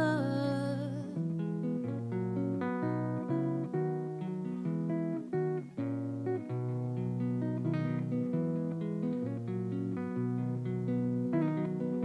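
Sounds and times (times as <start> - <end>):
solo guitar plucking: 0.0 - 12.0.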